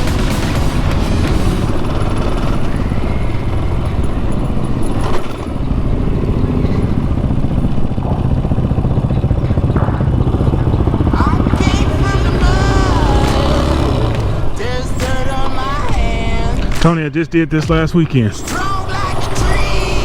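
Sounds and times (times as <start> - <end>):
motorcycle engine running: 0.0 - 17.0, 17.7 - 20.0.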